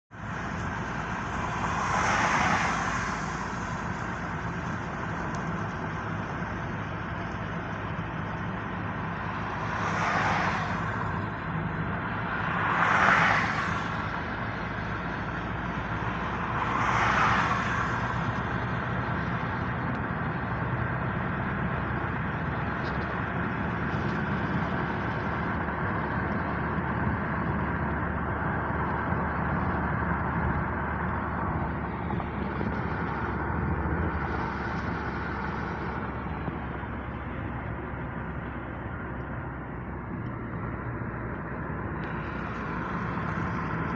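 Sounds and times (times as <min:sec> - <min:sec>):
road noise: 0:00.0 - 0:43.9
vehicle engine running: 0:00.1 - 0:43.9.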